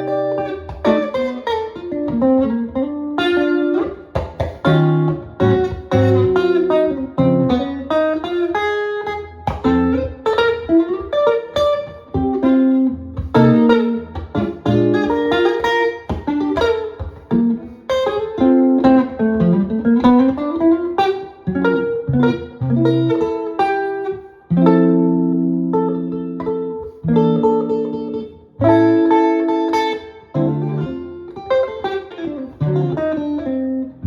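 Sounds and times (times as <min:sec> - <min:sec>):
solo jazz guitar: 0:00.0 - 0:34.0.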